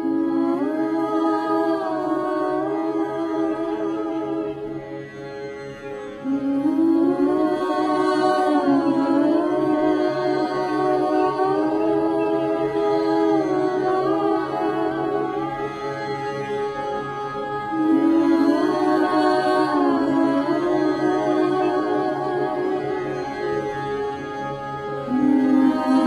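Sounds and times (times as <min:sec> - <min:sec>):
wordless voice singing: 0:00.0 - 0:04.9, 0:06.2 - 0:26.0.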